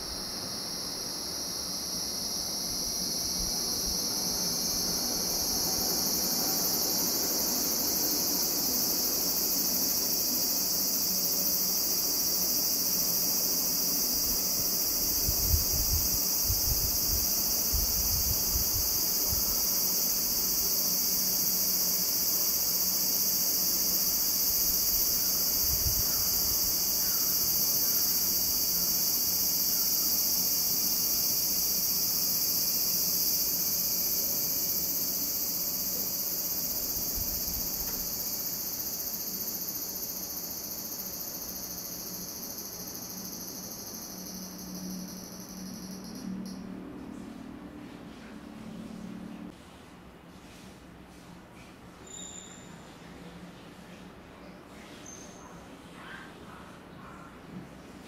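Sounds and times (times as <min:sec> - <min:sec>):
cicadas buzzing: 0:00.0 - 0:46.7.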